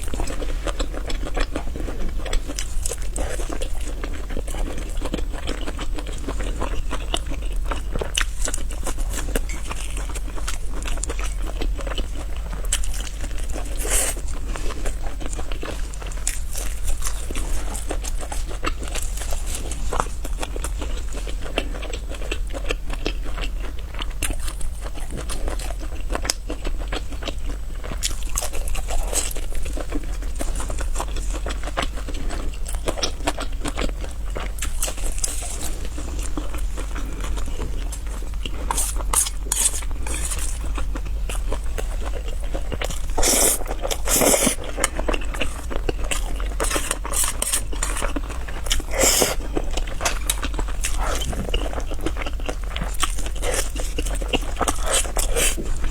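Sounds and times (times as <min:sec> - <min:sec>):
chewing and crunching: 0:00.0 - 0:55.9.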